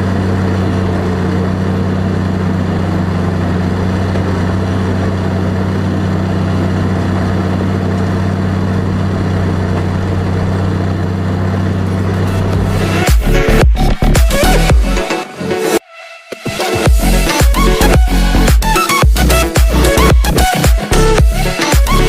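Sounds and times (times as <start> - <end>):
engine idling: 0.0 - 15.8, 16.6 - 22.0.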